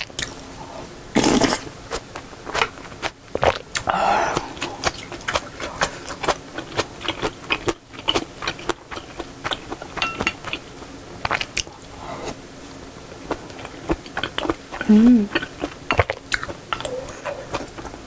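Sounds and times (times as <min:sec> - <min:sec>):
wet chewing of noodle soup: 0:01.2 - 0:12.4, 0:13.2 - 0:18.0.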